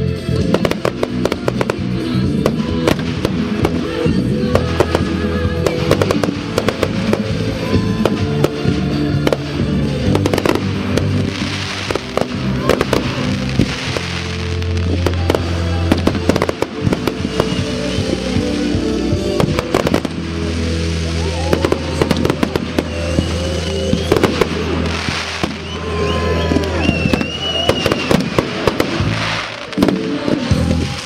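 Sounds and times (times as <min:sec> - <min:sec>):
loud music with heavy bass: 0:00.0 - 0:27.2, 0:28.0 - 0:31.0
fireworks bangs and crackles: 0:00.0 - 0:31.0.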